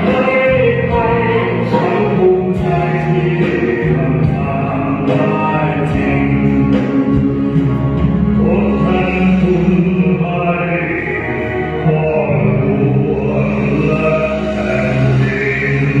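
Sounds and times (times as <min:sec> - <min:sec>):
instrumental accompaniment: 0:00.0 - 0:16.0
person singing long held notes: 0:00.0 - 0:16.0.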